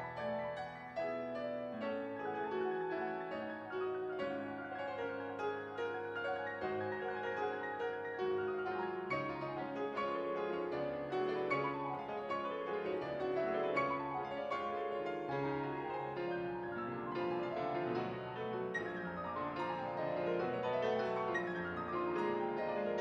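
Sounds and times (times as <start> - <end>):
two pianos playing classical music: 0.0 - 23.0.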